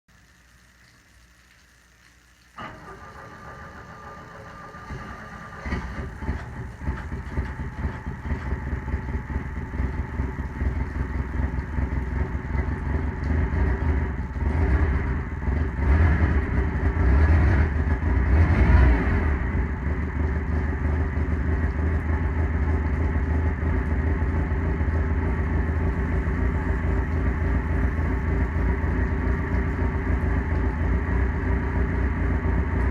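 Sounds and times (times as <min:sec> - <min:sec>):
marine engine running: 0:02.6 - 0:32.9.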